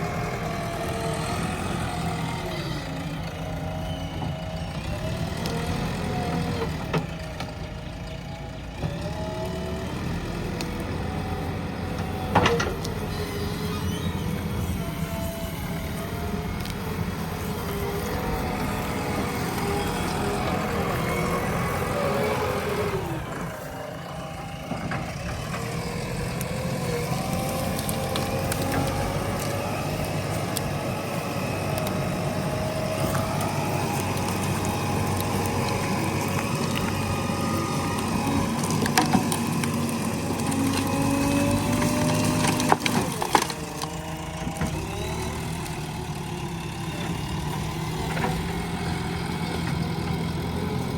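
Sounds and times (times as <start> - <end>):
backhoe diesel engine working: 0.0 - 50.9.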